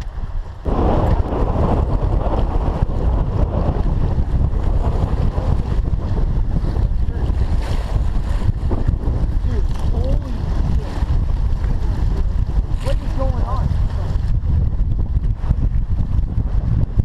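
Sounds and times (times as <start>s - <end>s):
water washing against a boat: 0.0s - 17.0s
wind buffeting microphone: 0.0s - 17.0s.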